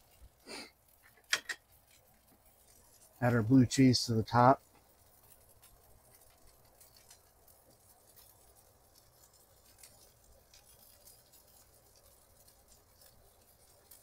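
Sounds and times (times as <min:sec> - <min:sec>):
burgers sizzling in a skillet: 0:00.0 - 0:14.0.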